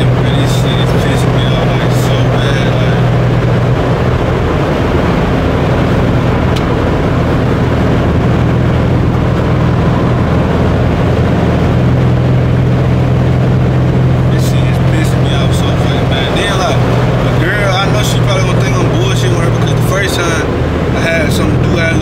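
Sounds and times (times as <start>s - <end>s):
car engine drone: 0.0s - 22.0s
road noise: 0.0s - 22.0s
wind noise through sunroof: 0.0s - 22.0s.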